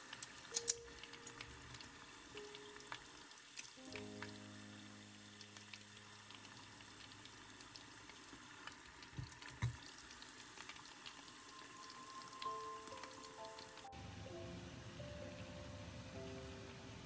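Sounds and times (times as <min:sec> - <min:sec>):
chicken deep-frying in oil: 0:00.0 - 0:13.9.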